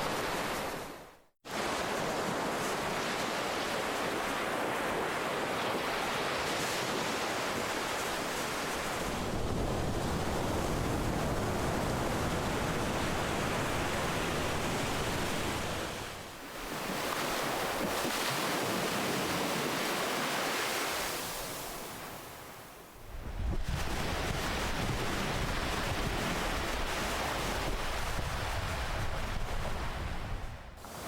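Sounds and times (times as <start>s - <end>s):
ocean waves washing in: 0.0s - 31.0s.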